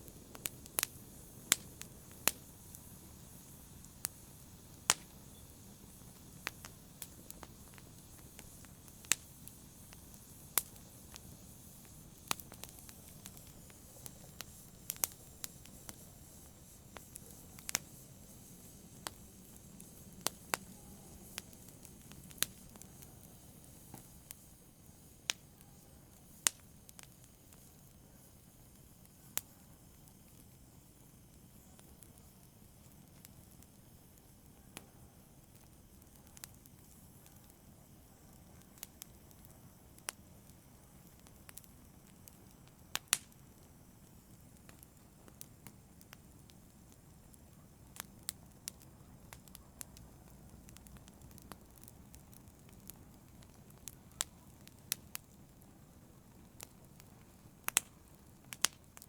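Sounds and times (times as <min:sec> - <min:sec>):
fire crackling and popping: 0:00.0 - 0:59.0
soft steady hiss: 0:00.0 - 0:59.0.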